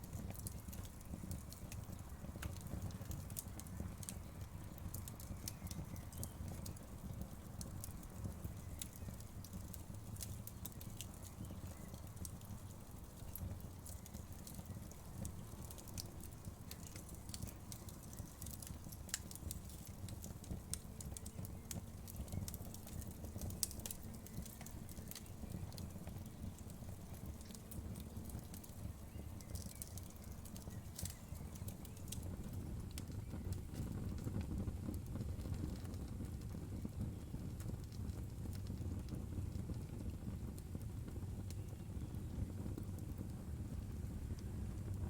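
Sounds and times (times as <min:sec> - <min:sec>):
burning wood popping and snapping: 0:00.0 - 0:45.0
low rumble of flames: 0:00.0 - 0:45.0.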